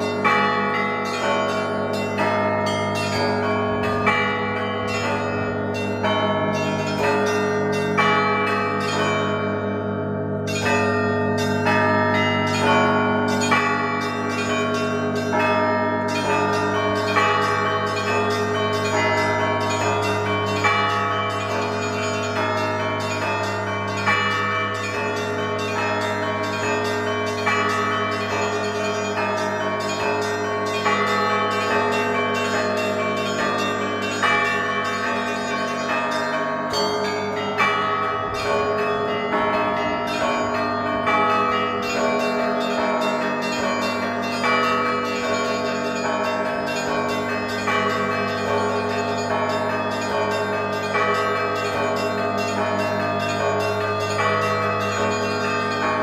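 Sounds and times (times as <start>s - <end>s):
deep hum of large bell: 0.0s - 56.0s
smaller bells striking: 0.0s - 56.0s.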